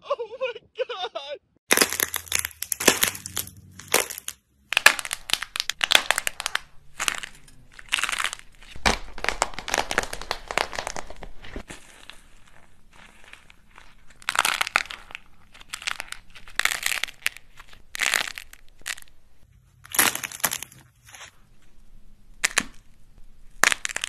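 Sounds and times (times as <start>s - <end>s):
dried clay cracking and crumbling: 1.7s - 24.0s.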